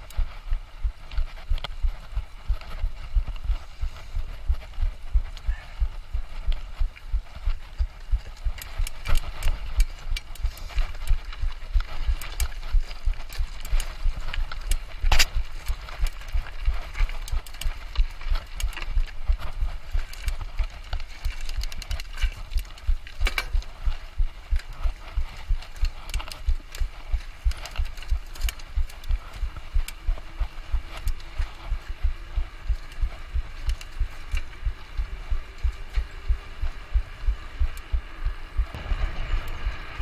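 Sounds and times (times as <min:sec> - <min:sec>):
bike clicks and rattles: 0:00.0 - 0:40.0.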